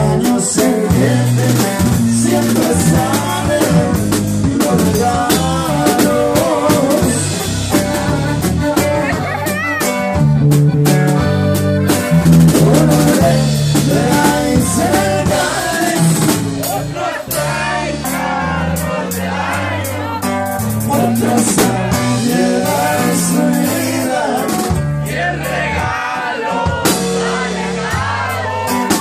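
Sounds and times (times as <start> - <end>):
bass notes: 0.0 - 29.0
button accordion melody: 0.0 - 29.0
drum kit: 0.0 - 29.0.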